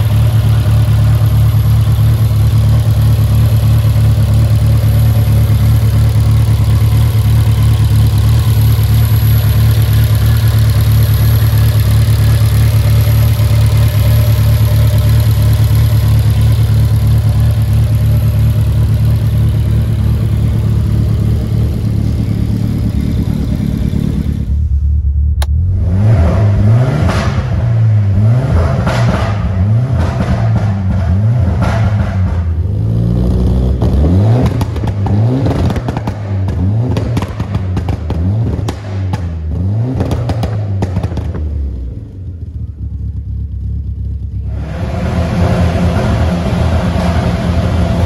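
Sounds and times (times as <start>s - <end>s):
car engine revving: 0.0s - 48.0s
turbocharged car engine idling: 0.0s - 48.0s.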